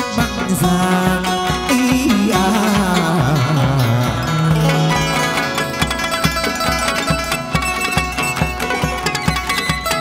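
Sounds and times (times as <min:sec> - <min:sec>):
plucked strings: 0:00.0 - 0:10.0
low melodic line: 0:00.4 - 0:10.0.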